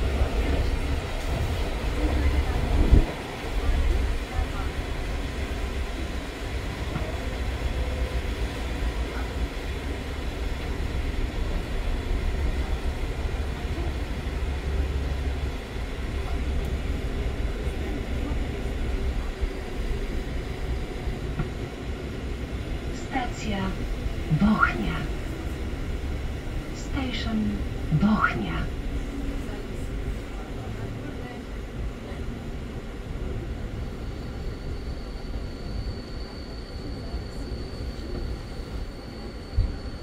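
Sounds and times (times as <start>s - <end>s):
train rumbling on rails: 0.0s - 40.0s.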